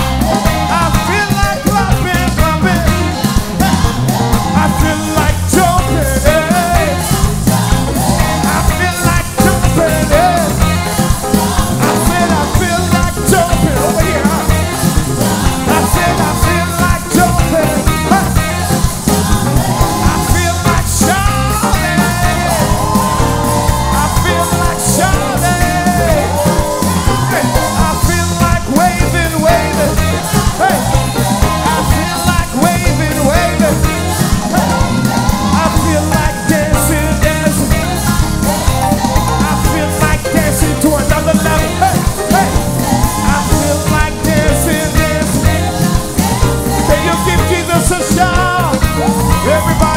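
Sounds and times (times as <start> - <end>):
drums: 0.0 - 49.9
gospel band playing: 0.0 - 49.9
people singing: 0.0 - 49.9.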